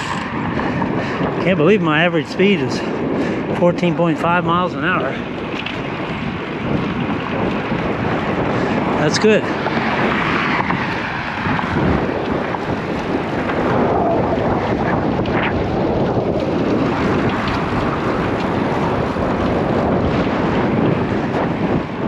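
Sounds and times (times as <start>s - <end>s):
wind blowing across microphone: 0.0s - 22.0s.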